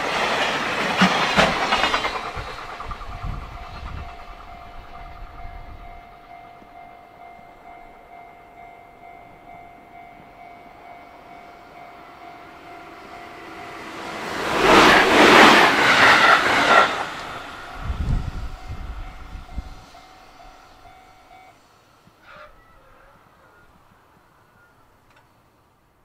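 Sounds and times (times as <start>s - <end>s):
low rumble of train wheels: 0.0s - 25.4s
electric train passing at speed: 0.0s - 26.0s.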